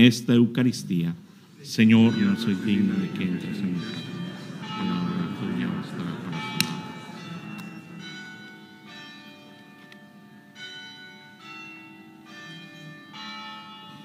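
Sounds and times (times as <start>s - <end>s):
church bells ringing: 1.6s - 14.0s.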